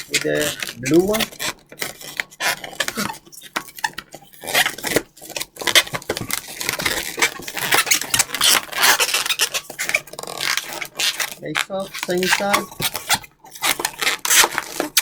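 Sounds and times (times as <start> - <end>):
balloons squeaking and rubbing: 0.0 - 15.0.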